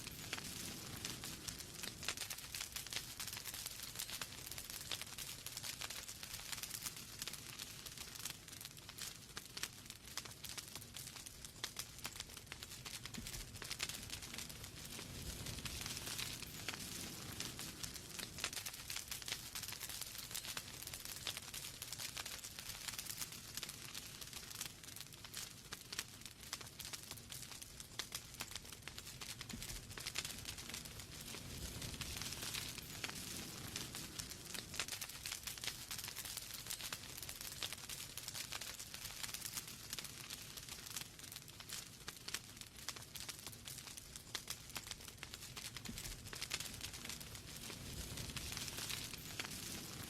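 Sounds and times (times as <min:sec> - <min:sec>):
flames rumbling and hissing: 0:00.0 - 0:50.0
logs crackling and popping: 0:00.0 - 0:50.0.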